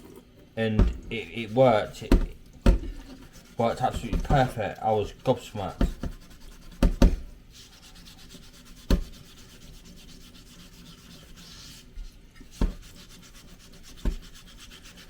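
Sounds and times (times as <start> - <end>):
scrub pad scrubbing metal: 0.7 - 15.0.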